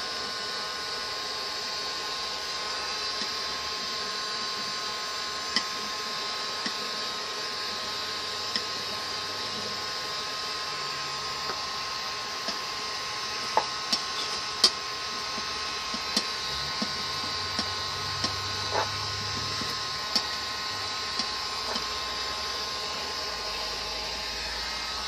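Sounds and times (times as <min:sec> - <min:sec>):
mechanical hum with faint whine: 0:00.0 - 0:25.0.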